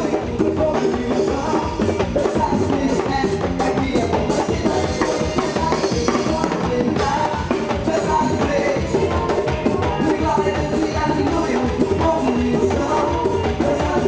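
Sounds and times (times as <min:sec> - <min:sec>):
drum kit beat: 0:00.0 - 0:14.0
instrumental band music: 0:00.0 - 0:14.0.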